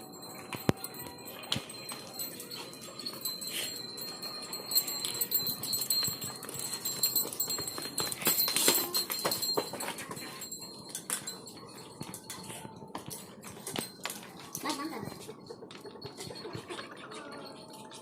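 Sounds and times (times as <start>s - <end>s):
cattle knocks and metallic clinks: 0.0s - 18.0s
thin steady high tone: 0.0s - 18.0s.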